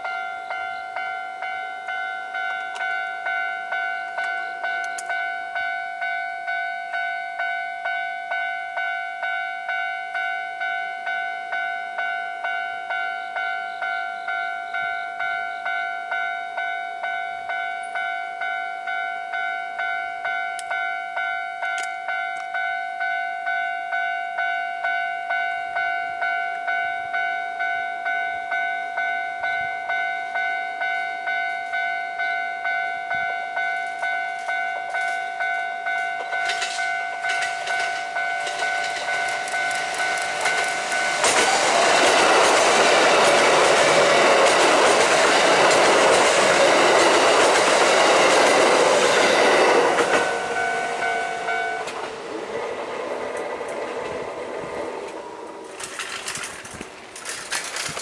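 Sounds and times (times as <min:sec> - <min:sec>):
level crossing bell pulsing: 0:00.0 - 0:55.8.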